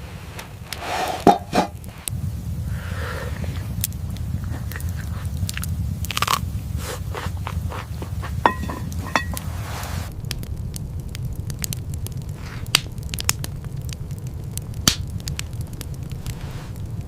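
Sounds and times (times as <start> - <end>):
low rumble: 0.0 - 17.0
crunching: 0.2 - 17.0.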